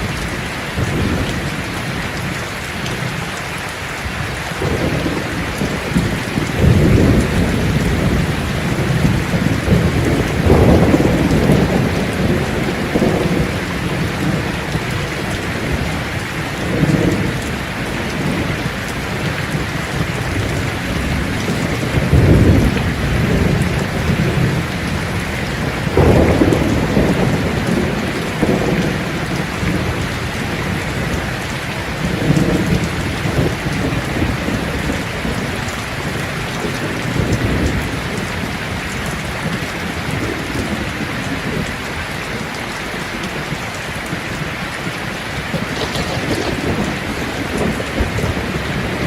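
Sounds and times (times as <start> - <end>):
thunder rumbling: 0.0 - 3.2, 4.0 - 49.0
steady rain: 0.0 - 49.0.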